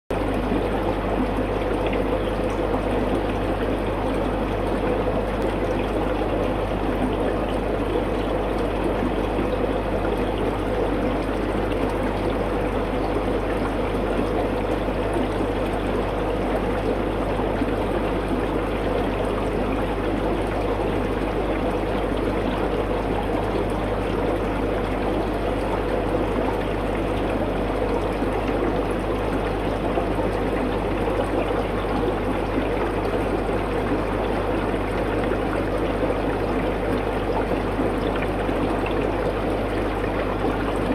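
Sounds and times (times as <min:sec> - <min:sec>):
aquarium water trickling: 0:00.1 - 0:40.9
low steady hum: 0:00.1 - 0:40.9.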